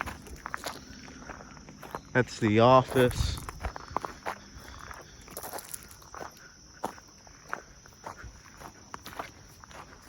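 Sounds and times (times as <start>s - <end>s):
soft footsteps: 0.0s - 10.0s.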